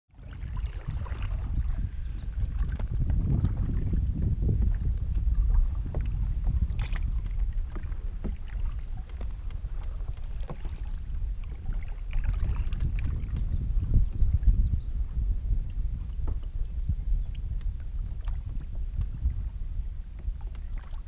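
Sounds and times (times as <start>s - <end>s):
canoe paddles splashing in water: 0.1s - 21.0s
wind rumbling on microphone: 0.1s - 21.0s.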